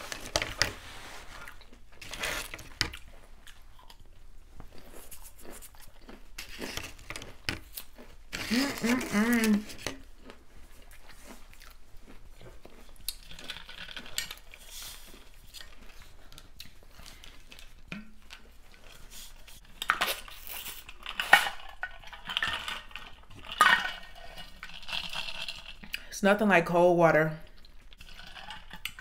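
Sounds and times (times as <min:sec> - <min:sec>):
crunchy chewing: 0:00.0 - 0:26.1.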